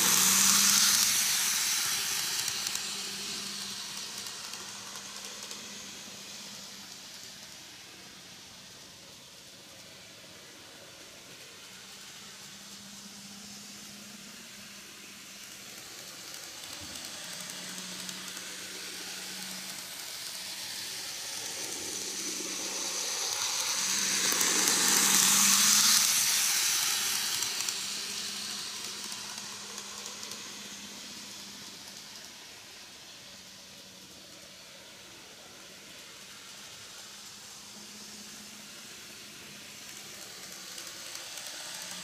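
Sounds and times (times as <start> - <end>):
model train motor whir: 0.0 - 42.0.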